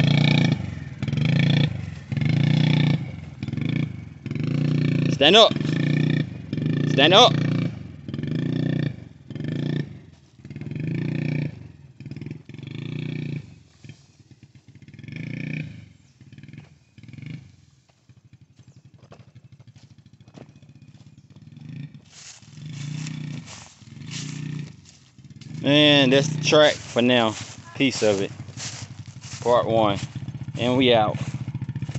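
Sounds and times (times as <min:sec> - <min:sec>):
small motorcycle engine revving: 0:00.0 - 0:31.9.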